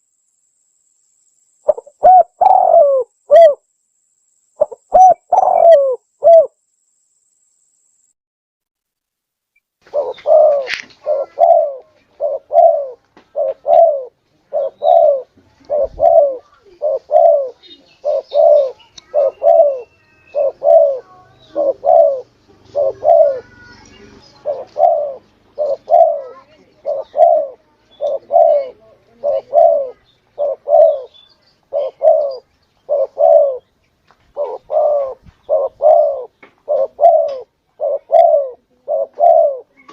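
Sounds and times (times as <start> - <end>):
dove cooing: 1.7 - 3.6, 4.6 - 6.6, 9.8 - 33.7, 34.3 - 39.9.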